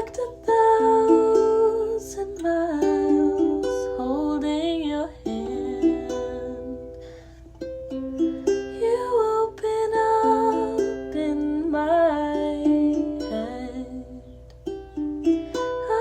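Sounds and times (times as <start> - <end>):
person singing wordless melody: 0.0 - 16.0
plucked acoustic string instrument: 0.0 - 16.0.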